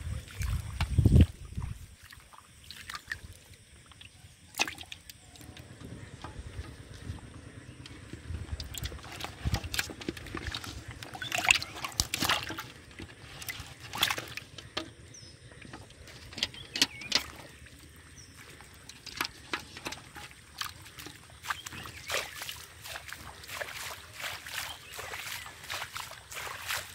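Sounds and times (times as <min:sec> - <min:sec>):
fish splashing in a bucket: 0:00.0 - 0:26.9.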